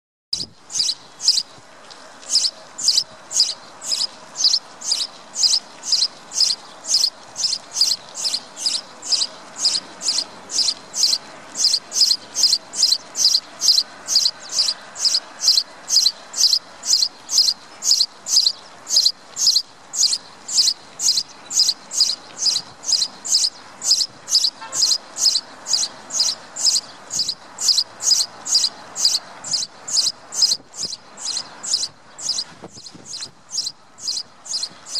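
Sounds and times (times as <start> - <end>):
sparrow chirping: 0.4 - 1.6, 2.2 - 34.9.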